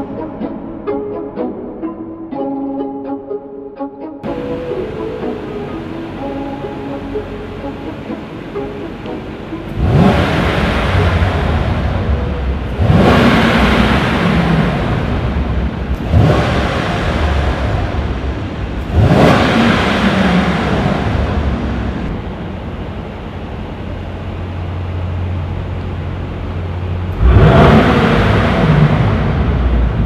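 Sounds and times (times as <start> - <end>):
car engine revving: 4.2 - 30.0.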